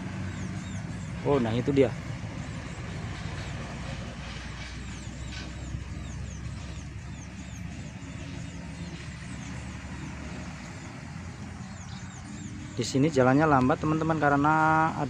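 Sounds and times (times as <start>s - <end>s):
truck diesel engine rumble: 0.0s - 15.0s.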